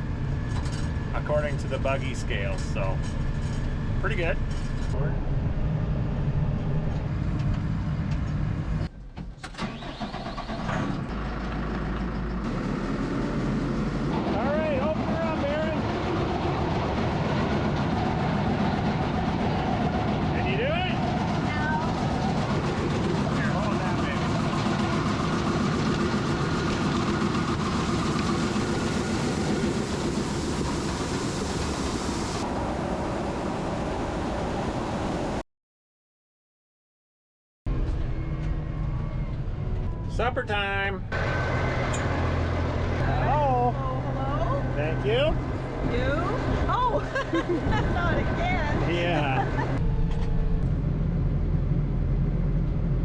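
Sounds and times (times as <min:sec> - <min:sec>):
tractor engine running: 0:00.0 - 0:32.4, 0:41.1 - 0:53.0
farm machinery droning: 0:00.0 - 0:35.4, 0:41.1 - 0:53.0.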